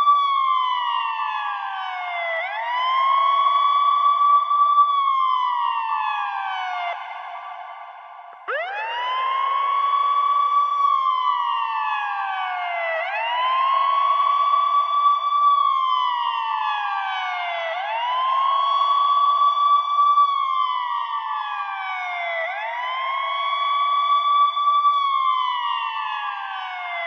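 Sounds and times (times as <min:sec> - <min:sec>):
ambulance siren wailing: 0:00.0 - 0:07.8, 0:08.4 - 0:27.0.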